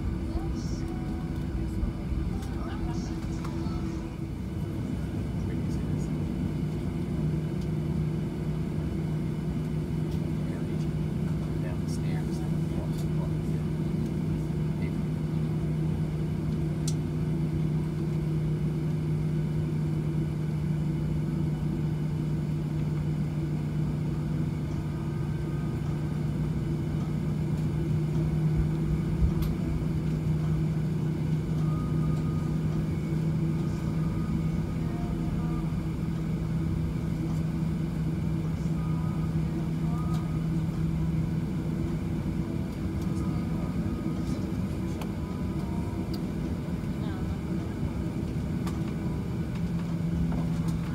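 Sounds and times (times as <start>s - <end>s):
airplane cabin drone: 0.0s - 50.9s.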